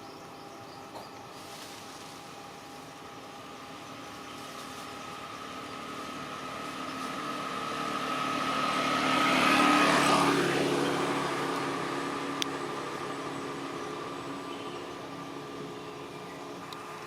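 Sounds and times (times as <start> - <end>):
motor vehicle passing by: 1.4 - 17.0.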